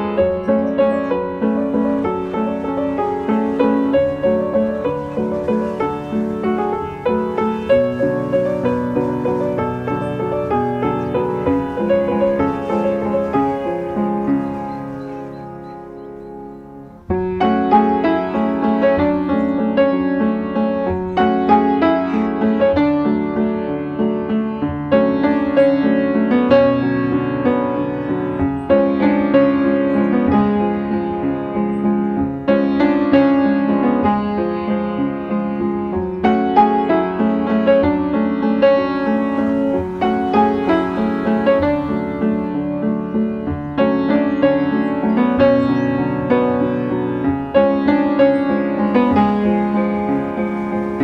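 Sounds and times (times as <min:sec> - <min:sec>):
slow piano music: 0:00.0 - 0:51.0.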